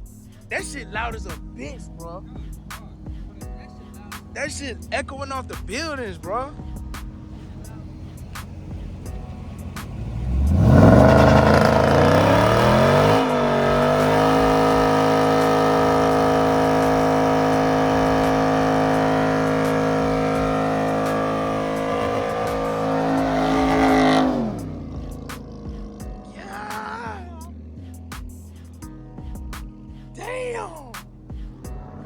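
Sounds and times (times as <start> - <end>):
car engine revving: 0.0 - 27.4.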